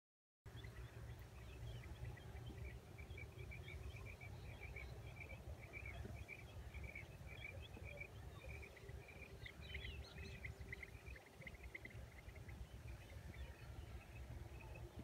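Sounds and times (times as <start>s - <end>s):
birds chirping: 0.5s - 15.0s
low outdoor rumble: 0.5s - 15.0s.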